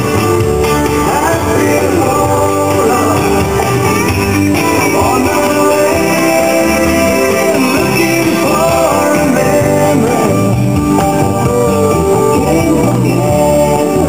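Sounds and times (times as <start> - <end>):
country rock song over loudspeakers: 0.0 - 14.0.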